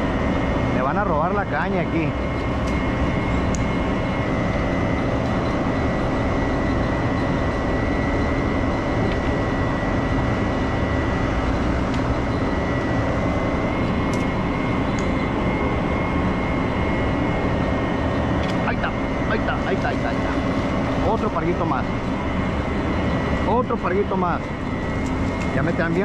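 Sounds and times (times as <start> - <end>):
thin high whine: 0.0 - 26.0
water pumps droning: 0.0 - 26.0.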